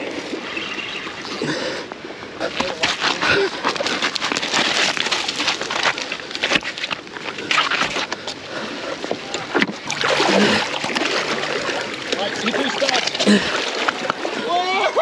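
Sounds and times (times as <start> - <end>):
sea water splashing over rocks: 0.0 - 15.0.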